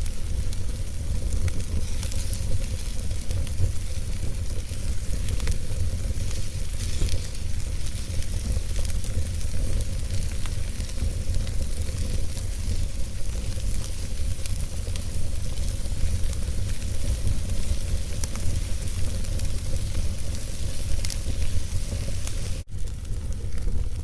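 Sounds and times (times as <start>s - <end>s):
fire burning in fireplace: 0.0s - 24.0s.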